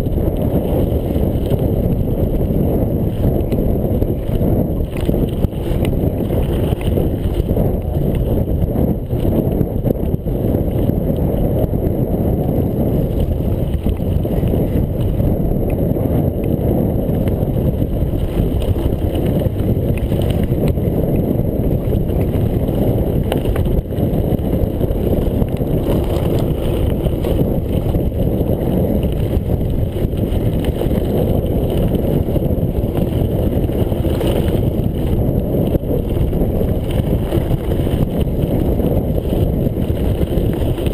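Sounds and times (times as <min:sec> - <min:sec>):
bike tyres rattling over stones: 0:00.0 - 0:40.9
wind buffeting microphone: 0:00.0 - 0:40.9.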